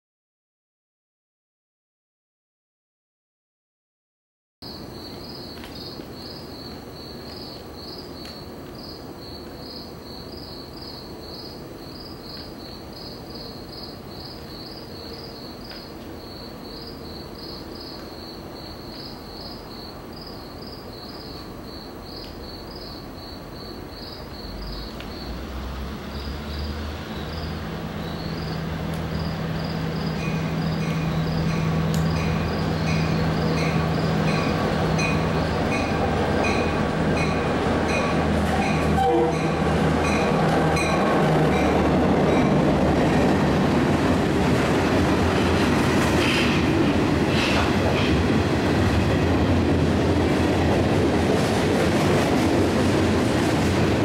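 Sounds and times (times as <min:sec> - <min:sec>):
crickets chirping: 0:04.6 - 0:51.0
diesel train rumbling: 0:04.7 - 0:54.0.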